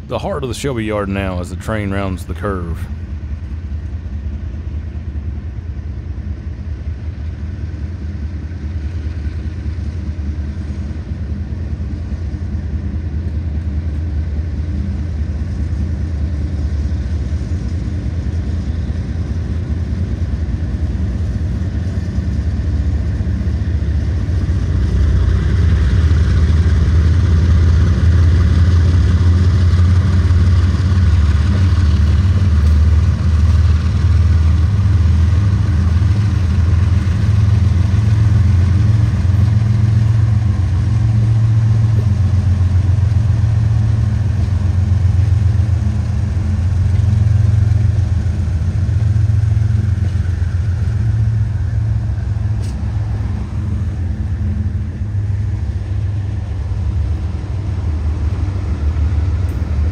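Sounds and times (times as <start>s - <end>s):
diesel locomotive rumble: 0.0s - 59.9s.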